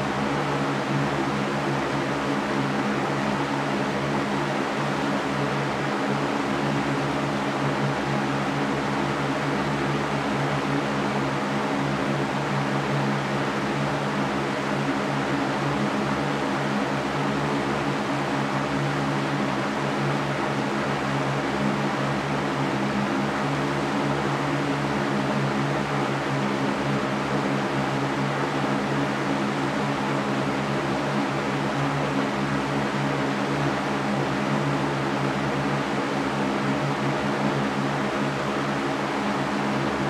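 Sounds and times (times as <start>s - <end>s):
floor fan running: 0.0s - 40.0s.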